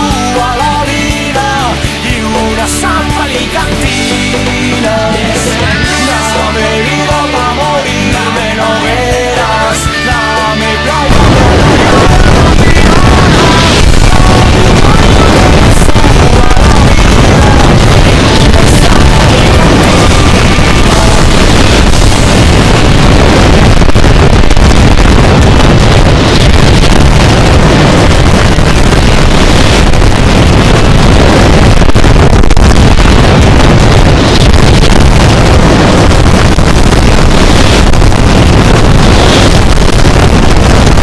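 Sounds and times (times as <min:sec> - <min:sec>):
bonfire roaring: 0:05.3 - 0:41.0.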